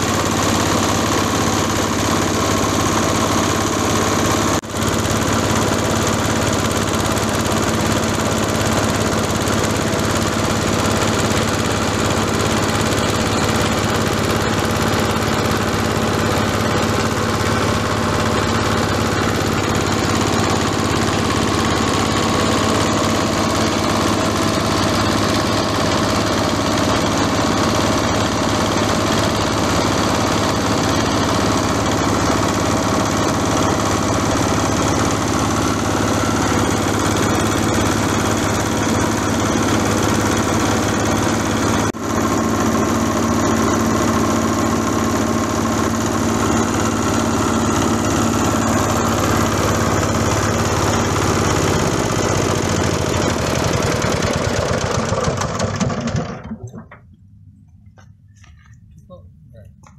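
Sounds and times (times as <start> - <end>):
chopper shredding fronds: 0.0 - 56.6
diesel engine running: 0.0 - 59.9.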